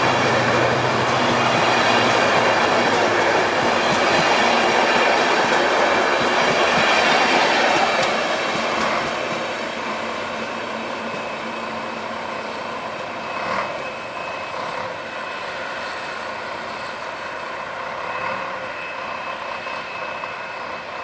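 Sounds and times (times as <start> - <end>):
passenger train rumbling on rails: 0.0 - 21.0.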